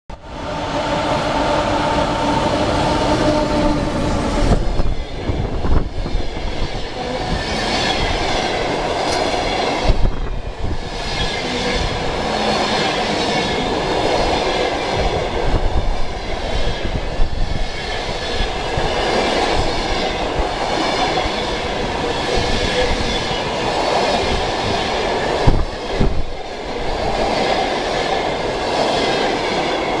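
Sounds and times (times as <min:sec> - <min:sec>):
electric locomotive droning: 0:00.1 - 0:30.0.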